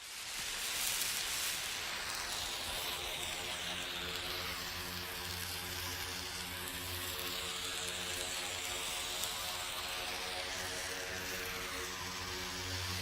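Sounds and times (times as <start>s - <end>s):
flare sizzling in metal tube: 0.0s - 13.0s.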